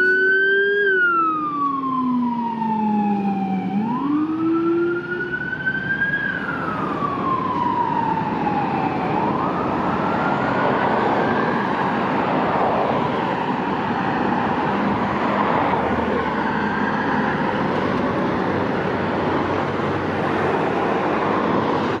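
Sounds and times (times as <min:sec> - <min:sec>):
fire engine siren wailing: 0:00.0 - 0:22.0
road noise: 0:00.0 - 0:22.0.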